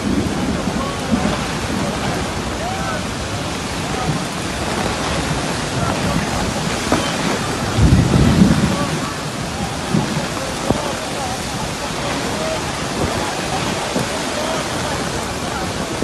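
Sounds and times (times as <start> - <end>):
heavy rain falling: 0.0 - 16.0
low rumble of thunder: 0.0 - 16.0.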